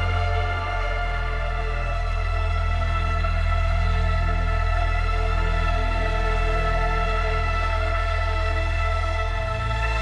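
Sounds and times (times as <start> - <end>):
slow music with held tones: 0.0 - 10.0.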